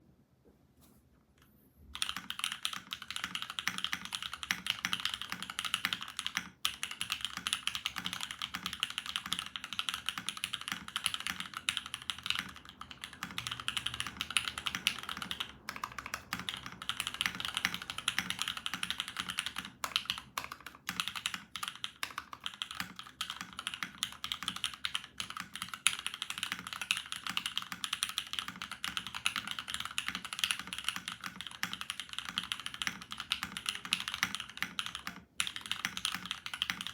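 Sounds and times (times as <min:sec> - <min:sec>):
fast typing on mechanical keyboard: 0:01.9 - 0:36.9.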